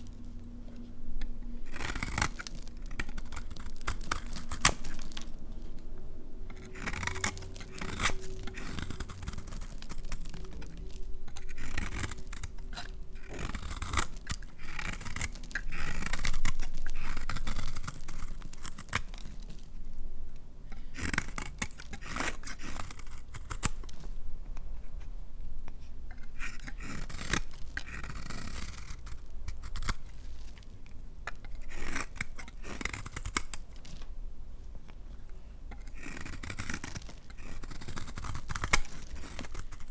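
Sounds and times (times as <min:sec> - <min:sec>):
knife cutting soap: 0:00.1 - 0:05.8, 0:06.5 - 0:19.7, 0:20.8 - 0:24.1, 0:25.7 - 0:34.1, 0:34.8 - 0:39.9.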